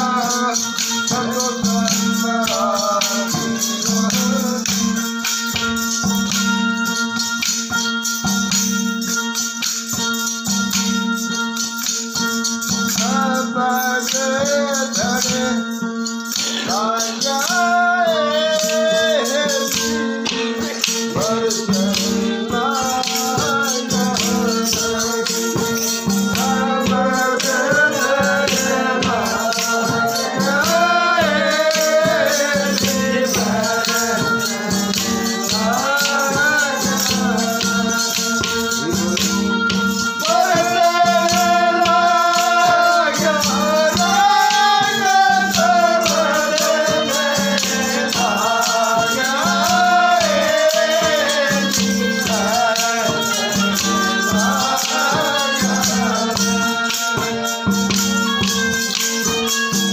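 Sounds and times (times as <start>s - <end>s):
man singing devotional song: 0.0s - 59.9s.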